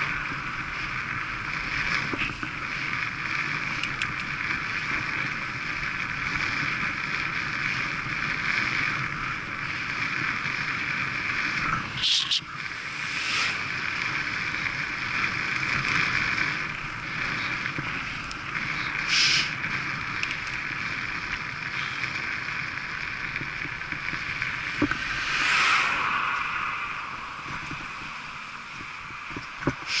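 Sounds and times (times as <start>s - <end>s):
bicycle road noise: 0.0s - 30.0s
wind rushing over microphone: 0.0s - 30.0s.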